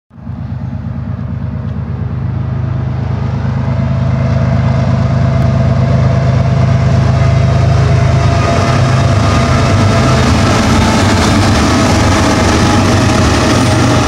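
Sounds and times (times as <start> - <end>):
freight locomotives rumbling: 0.1 - 14.0.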